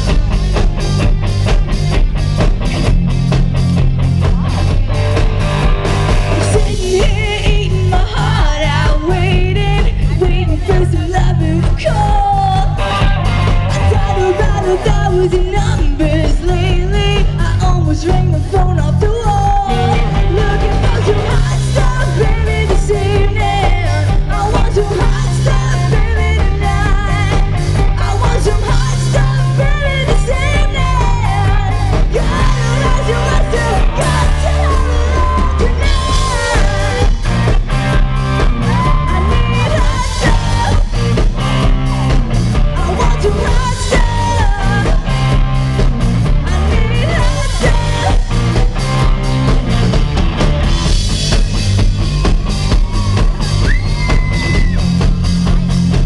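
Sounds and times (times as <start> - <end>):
bass line: 0.0 - 56.0
drum kit: 0.0 - 56.0
electric guitar: 0.0 - 56.0
woman singing lead: 3.3 - 49.9.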